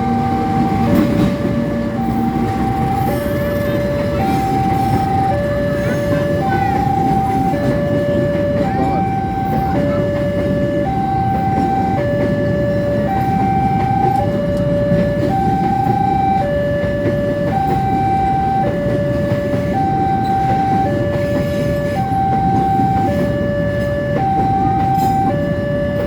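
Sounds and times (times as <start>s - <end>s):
level crossing two-tone alarm: 0.0s - 26.0s
train rolling past: 0.0s - 26.0s.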